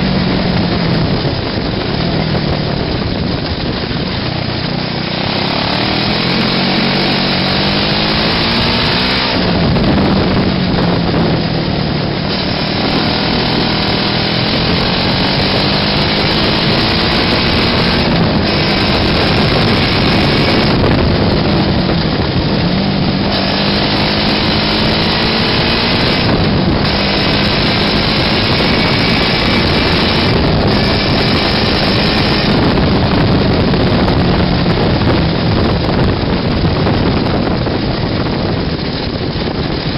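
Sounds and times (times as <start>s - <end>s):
small engine revving: 4.4s - 39.9s.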